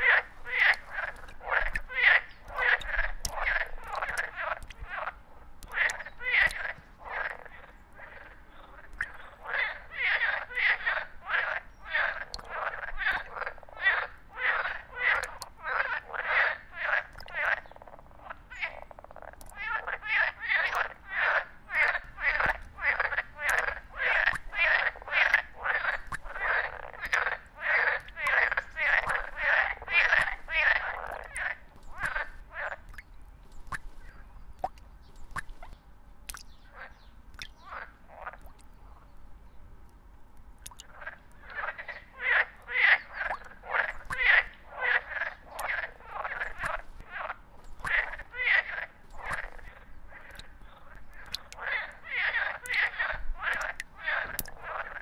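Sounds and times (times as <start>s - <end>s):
frog croaking: 0.0s - 38.7s, 40.6s - 55.0s.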